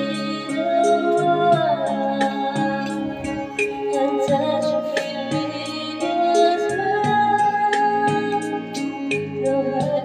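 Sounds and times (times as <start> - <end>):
karaoke backing music: 0.0 - 10.0.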